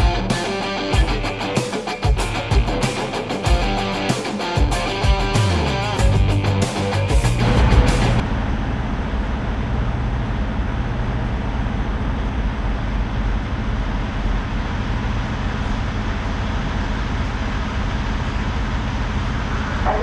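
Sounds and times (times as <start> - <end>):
road noise: 0.0 - 20.0
truck engine hum: 0.0 - 20.0.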